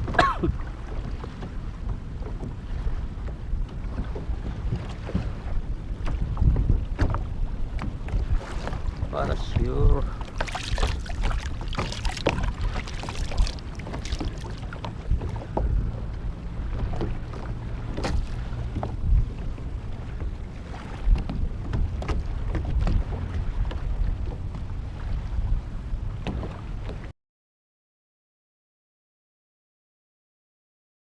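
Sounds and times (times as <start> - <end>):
wind buffeting microphone: 0.0 - 27.1.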